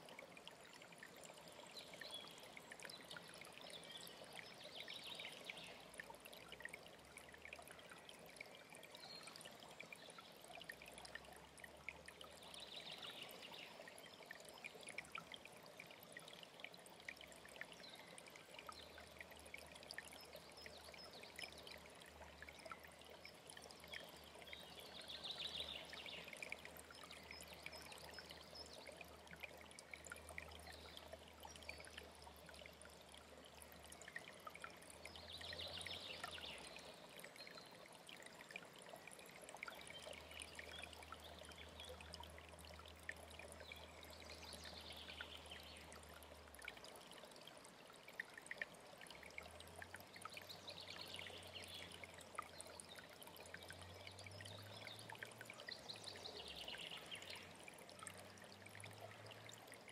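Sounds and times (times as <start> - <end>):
faint stream running: 0.0 - 59.9.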